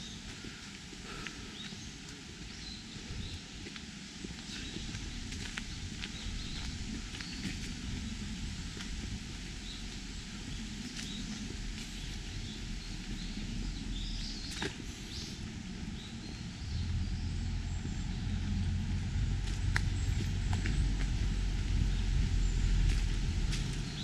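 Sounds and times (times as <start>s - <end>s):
small birds chirping: 0.0s - 24.0s
steady low rumble: 0.0s - 24.0s.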